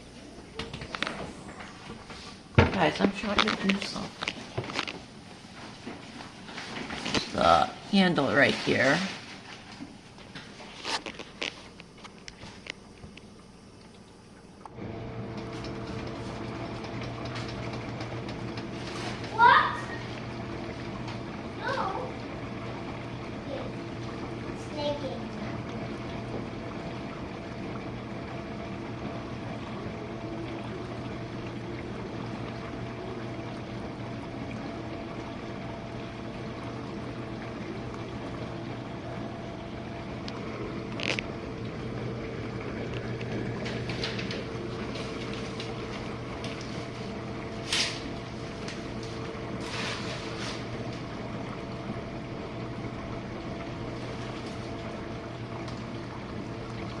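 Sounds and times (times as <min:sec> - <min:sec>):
motor hum: 0:00.0 - 0:57.0
water rushing in dishwasher: 0:00.0 - 0:57.0.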